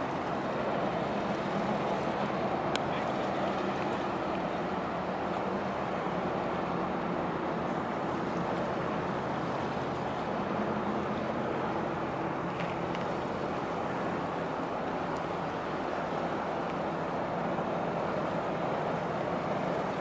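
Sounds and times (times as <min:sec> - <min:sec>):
background traffic noise: 0:00.0 - 0:20.0
boat diesel engine droning: 0:00.0 - 0:20.0.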